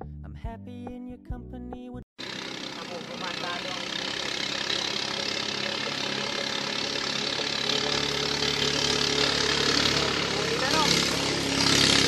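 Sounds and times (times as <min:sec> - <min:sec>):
boat engine running: 0:02.2 - 0:12.0.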